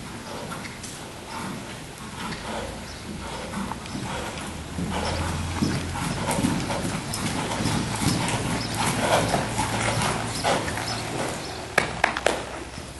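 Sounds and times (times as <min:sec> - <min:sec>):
horse hooves trotting on sand: 0:00.0 - 0:12.9.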